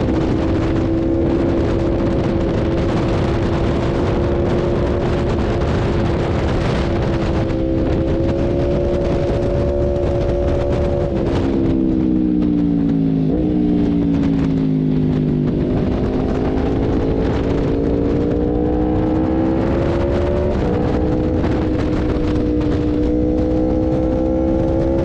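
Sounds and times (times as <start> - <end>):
low wind rumble: 0.0 - 25.0
motorcycle engine revving: 0.0 - 25.0.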